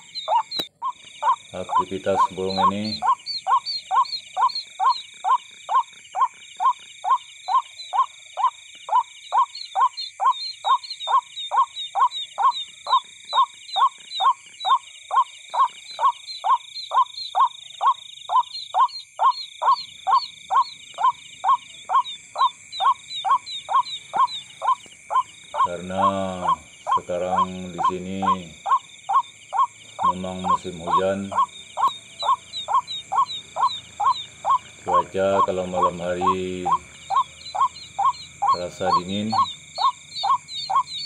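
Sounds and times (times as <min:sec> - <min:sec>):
faint high chirps: 0:00.0 - 0:41.0
high-pitched insect drone: 0:00.0 - 0:41.0.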